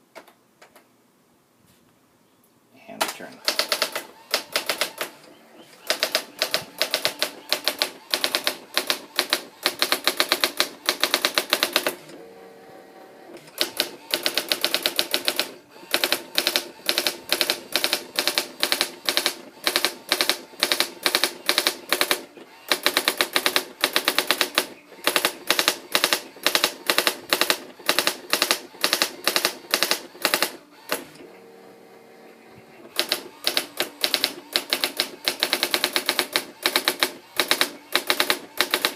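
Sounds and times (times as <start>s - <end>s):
typewriter typing strikes: 3.4s - 5.1s, 5.8s - 12.0s, 13.6s - 31.0s, 32.9s - 38.9s
typewriter motor hum: 3.4s - 38.9s.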